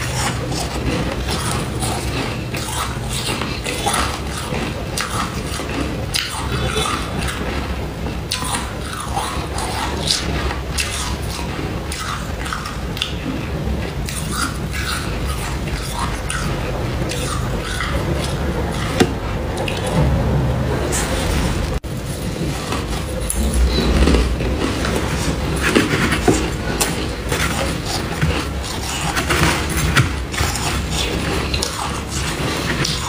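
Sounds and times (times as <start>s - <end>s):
crunching and chewing frost: 0.0s - 33.0s.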